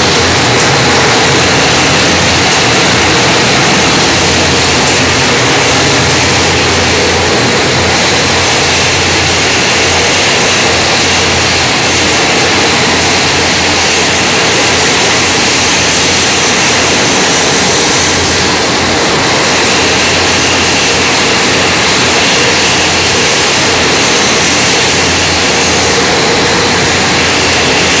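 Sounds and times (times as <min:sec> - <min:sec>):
bottling machinery roar: 0:00.0 - 0:28.0.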